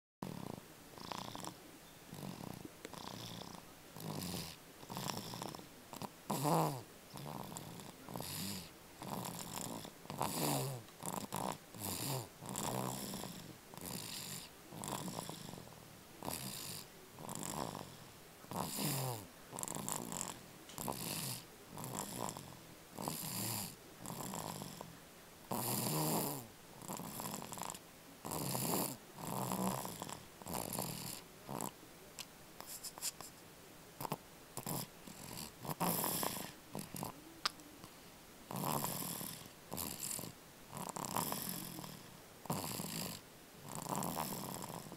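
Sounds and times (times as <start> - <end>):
loud snoring: 0.2 - 24.9, 25.5 - 31.8, 34.0 - 37.2, 38.5 - 44.9.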